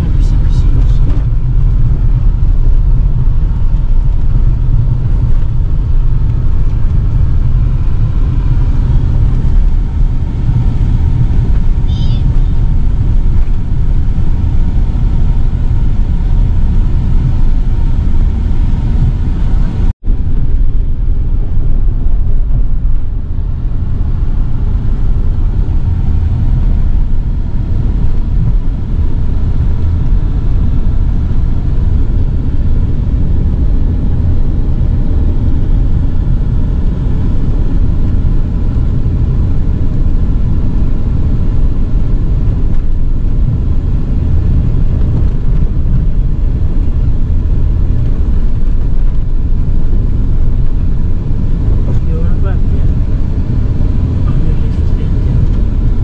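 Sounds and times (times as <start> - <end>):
vehicle rumbling in motion: 0.0 - 56.0.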